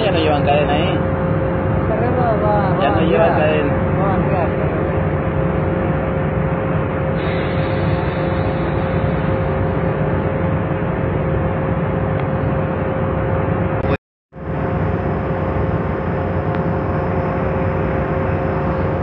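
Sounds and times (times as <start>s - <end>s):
ship engine humming: 0.0s - 19.0s.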